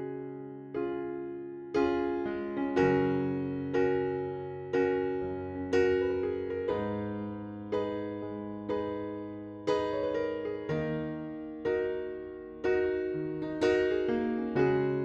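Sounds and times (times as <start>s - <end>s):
soft electric piano chords: 0.0s - 15.0s.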